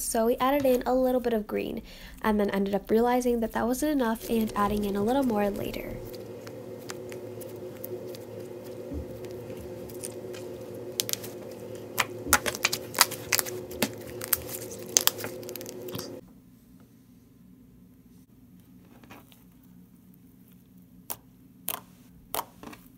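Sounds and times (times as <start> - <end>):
steady background hum: 0.0 - 22.9.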